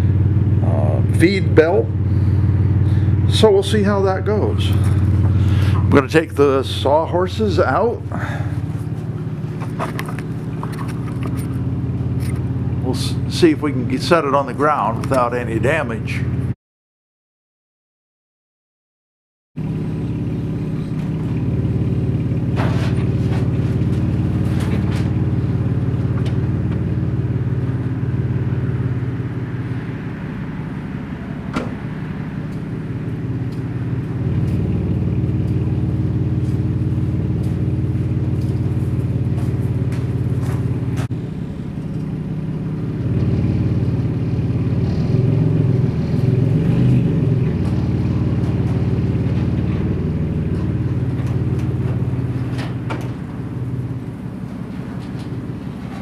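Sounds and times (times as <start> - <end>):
truck engine running at low revs: 0.0 - 16.6, 19.6 - 56.0.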